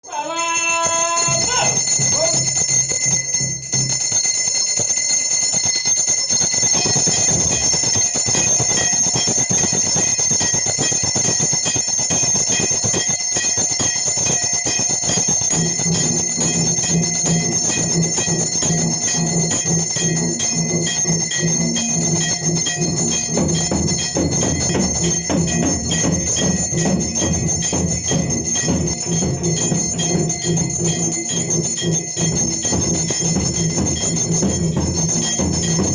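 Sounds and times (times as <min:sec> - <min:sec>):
temple bells ringing: 0:00.0 - 0:35.9.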